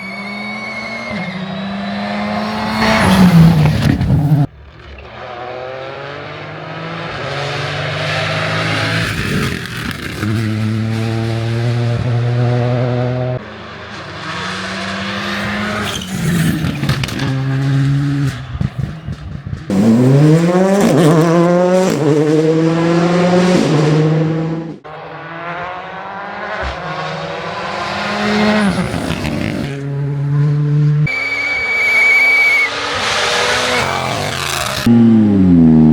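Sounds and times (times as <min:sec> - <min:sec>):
rally car engines revving: 0:00.0 - 0:35.9.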